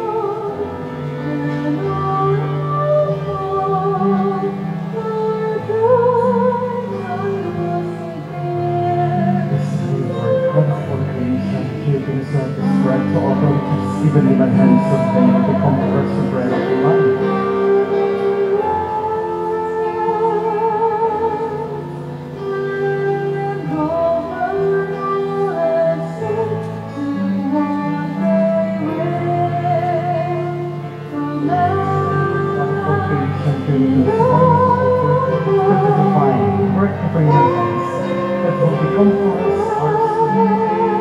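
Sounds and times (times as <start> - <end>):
person singing with vibrato: 0.0 - 41.0
sustained instrumental accompaniment: 0.0 - 41.0.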